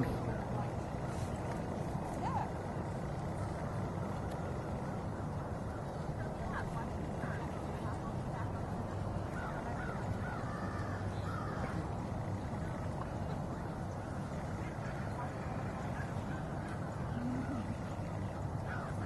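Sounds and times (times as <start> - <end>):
distant birds calling: 0.0 - 19.0
low background rumble: 0.0 - 19.0.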